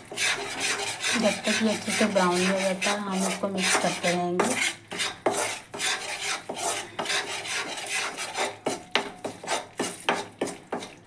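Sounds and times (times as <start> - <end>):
ladle scraping metal pan: 0.0 - 10.9.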